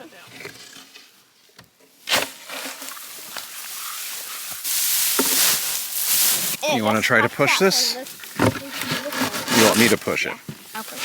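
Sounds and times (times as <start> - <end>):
dry hay rustling and crunching: 2.0 - 11.0.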